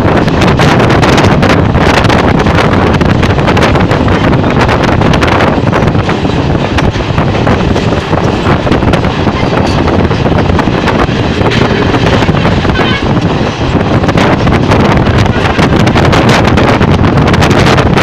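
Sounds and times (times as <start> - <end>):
train running noise: 0.0 - 18.0
wind buffeting microphone: 0.0 - 18.0.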